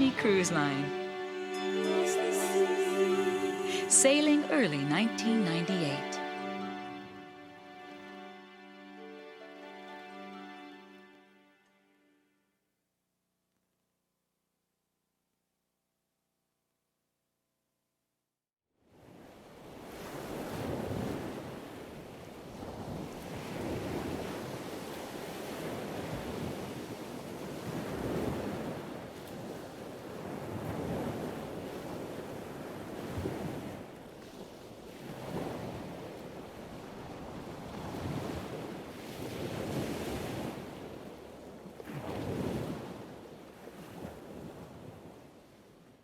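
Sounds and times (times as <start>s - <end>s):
waves washing in and out: 0.0s - 10.7s, 18.9s - 46.0s.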